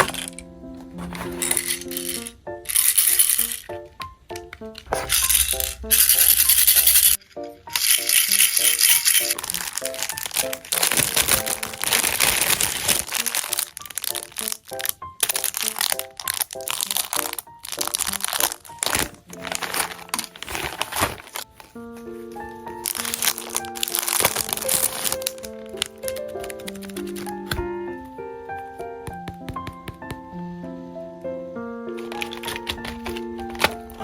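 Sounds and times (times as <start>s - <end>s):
packaging crinkling: 0.0s - 27.7s, 32.0s - 34.0s
light background music: 0.0s - 34.0s.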